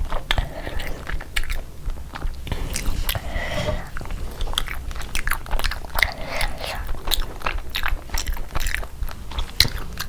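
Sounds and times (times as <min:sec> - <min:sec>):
chewing and biting food: 0:00.0 - 0:10.0
wet mouth sounds: 0:00.0 - 0:10.0.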